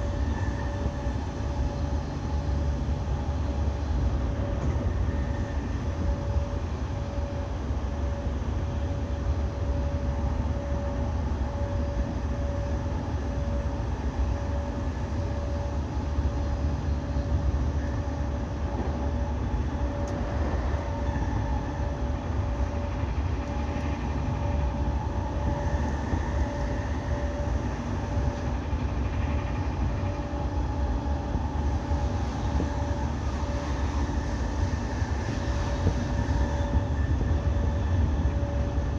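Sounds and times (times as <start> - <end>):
faint high whine: 0.0 - 38.9
train wheels rumbling on rail: 0.0 - 38.9.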